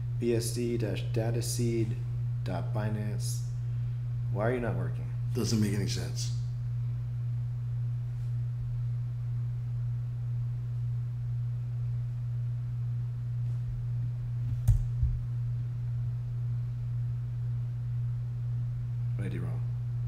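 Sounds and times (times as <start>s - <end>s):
steady low-pitched hum: 0.0s - 20.0s.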